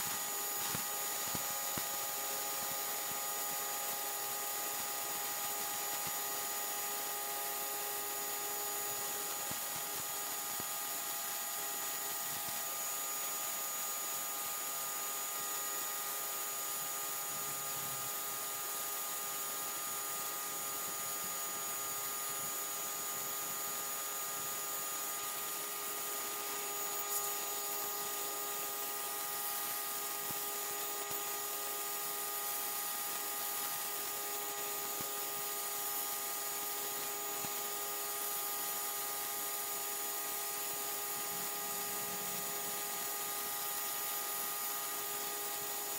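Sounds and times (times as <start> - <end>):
high-pressure water jet hissing: 0.0 - 45.9.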